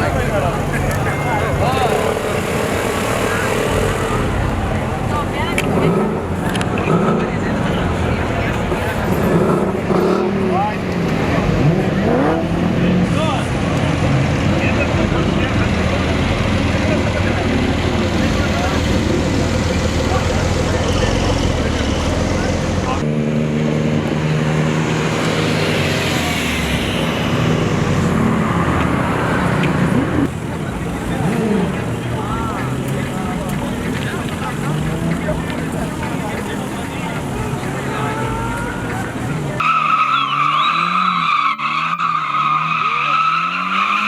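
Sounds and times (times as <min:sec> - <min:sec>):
rush of noise: 0:00.0 - 0:39.6
car engine revving high: 0:00.0 - 0:44.0.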